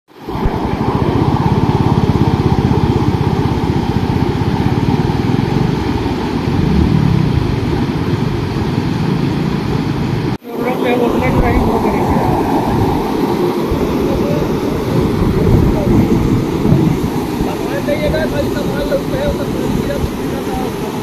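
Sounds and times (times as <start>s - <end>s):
floodwater rushing: 0.1s - 21.0s.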